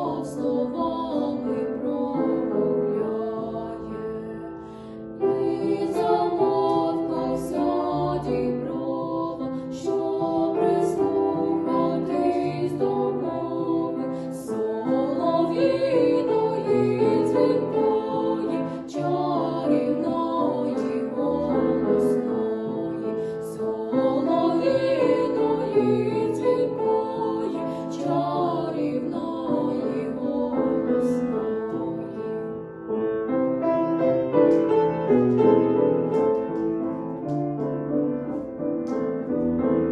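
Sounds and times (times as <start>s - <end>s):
women singing: 0.0s - 32.6s
piano accompaniment: 0.0s - 39.9s.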